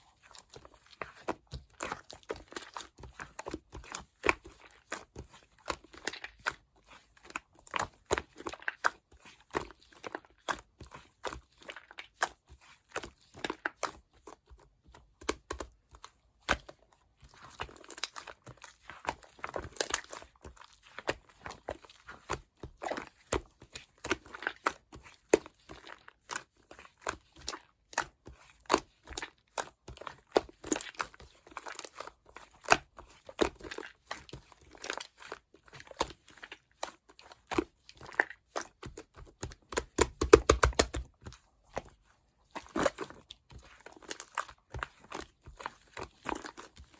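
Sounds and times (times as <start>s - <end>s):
slime squished by hand: 7.3s - 46.9s.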